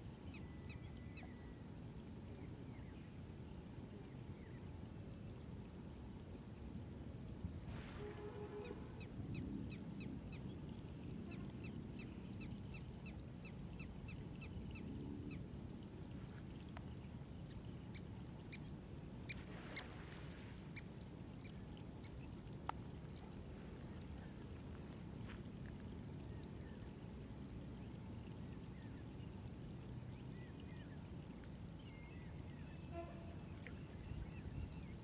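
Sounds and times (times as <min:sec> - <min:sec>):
low outdoor hum: 0:00.0 - 0:35.0.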